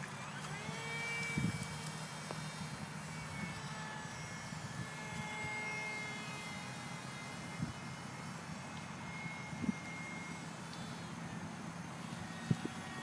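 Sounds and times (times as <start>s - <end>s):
model jet motor whine: 0.0s - 13.0s.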